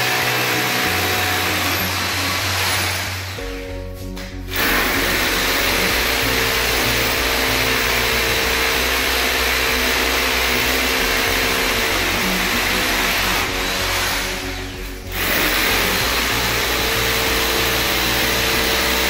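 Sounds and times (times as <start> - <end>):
electric drill boring into masonry: 0.0 - 3.7, 4.5 - 19.0.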